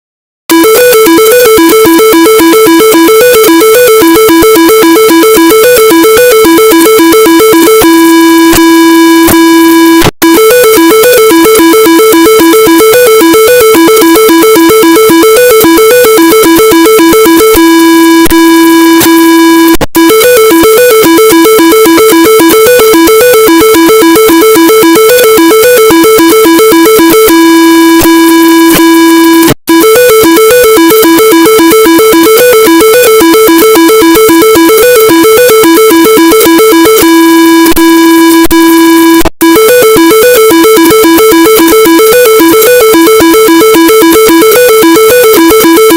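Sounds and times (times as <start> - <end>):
steady alarm tone: 0.5 - 19.3, 20.0 - 45.9
electronic alarm alternating tones: 0.5 - 45.9.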